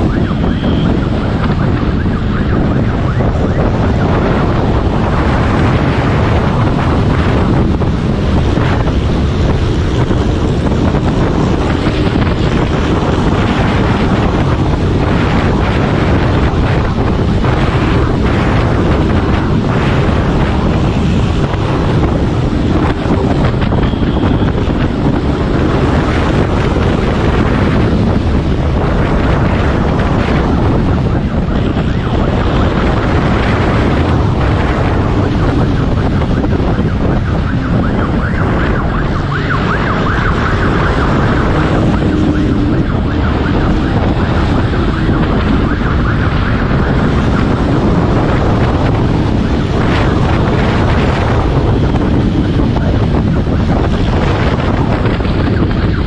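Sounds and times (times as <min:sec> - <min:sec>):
road noise: 0:00.0 - 0:56.0
vehicle engine rumble: 0:00.0 - 0:56.0
wind buffeting microphone: 0:00.0 - 0:56.0.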